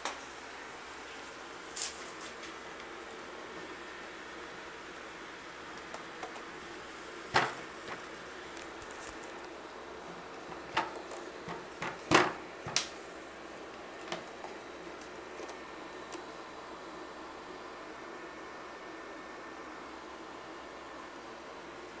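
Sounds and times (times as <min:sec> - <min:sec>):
projector cooling fan whirring: 0:00.0 - 0:22.0.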